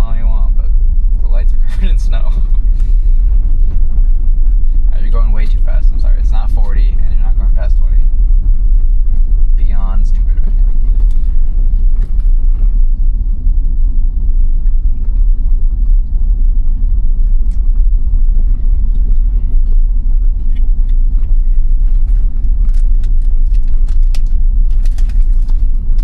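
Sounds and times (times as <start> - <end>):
tyre rumble on snowy road: 0.0 - 26.0.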